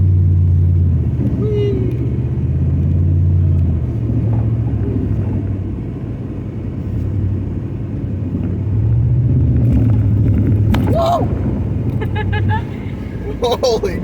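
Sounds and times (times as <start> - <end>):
pickup engine revving: 0.0 - 14.0.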